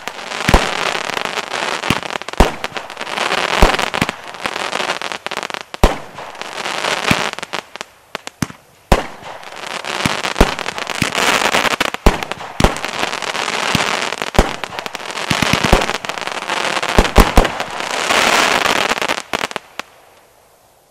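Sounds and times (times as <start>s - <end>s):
firework bangs: 0.0s - 19.9s
firework stars crackling: 0.0s - 20.9s.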